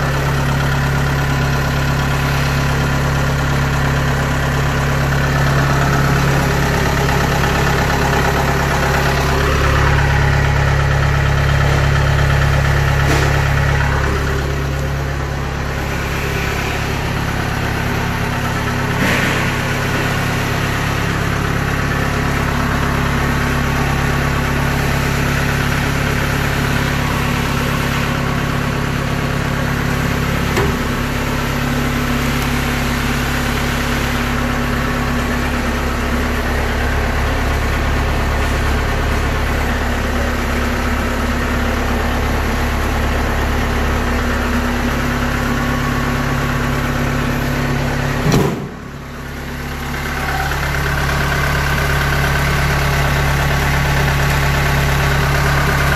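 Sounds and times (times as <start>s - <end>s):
combine harvester droning: 0.0s - 55.9s.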